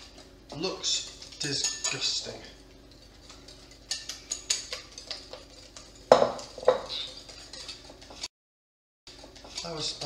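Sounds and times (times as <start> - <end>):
utensil clinking against bowl: 0.0 - 8.3.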